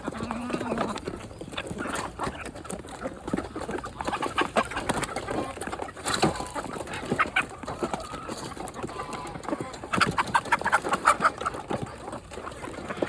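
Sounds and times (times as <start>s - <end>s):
chickens clucking softly: 0.0s - 13.0s.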